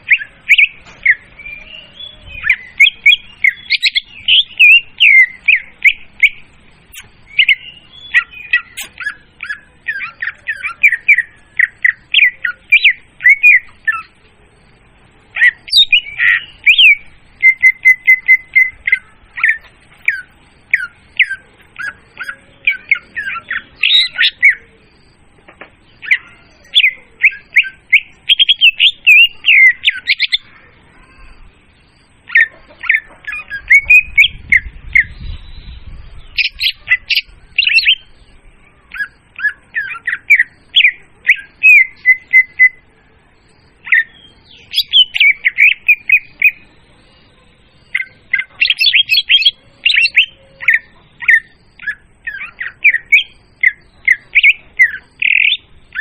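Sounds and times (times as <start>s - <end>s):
bird song chirps and whistles: 0.0s - 14.2s, 15.3s - 25.2s, 25.8s - 42.9s, 43.5s - 56.0s.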